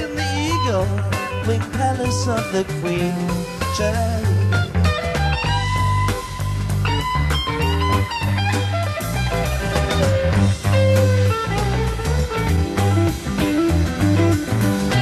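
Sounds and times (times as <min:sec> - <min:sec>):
bass guitar: 0:00.0 - 0:15.0
drum kit: 0:00.0 - 0:15.0
electric guitar lines: 0:00.0 - 0:15.0.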